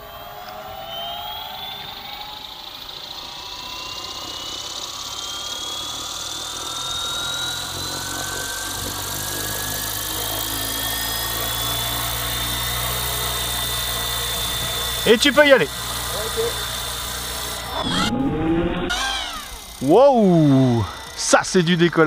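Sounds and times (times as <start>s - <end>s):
electric motor whine: 0.0s - 22.0s
low rotor drone: 0.0s - 22.0s.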